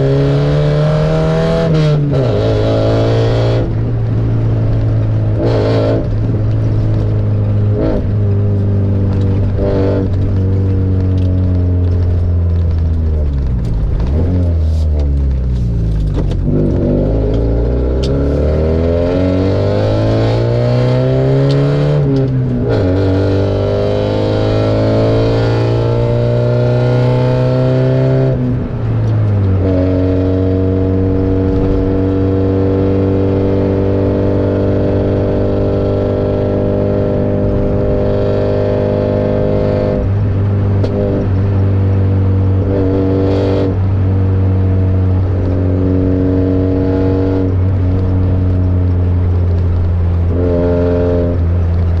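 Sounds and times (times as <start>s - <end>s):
engine revving through exhaust: 0.0s - 52.0s.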